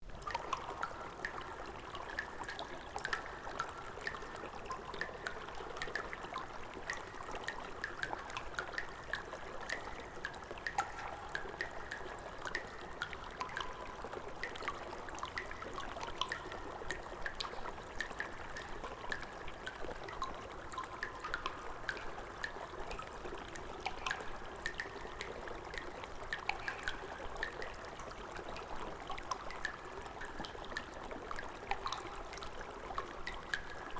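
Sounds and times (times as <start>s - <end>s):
water drips and splashes: 0.0s - 33.9s
water trickling: 0.0s - 33.9s.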